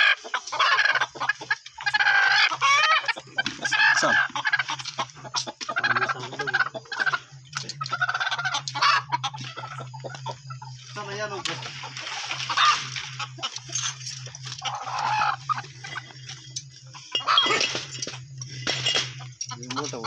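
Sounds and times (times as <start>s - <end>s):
hen squawking and clucking: 0.0s - 17.9s
steady low hum: 0.3s - 20.0s.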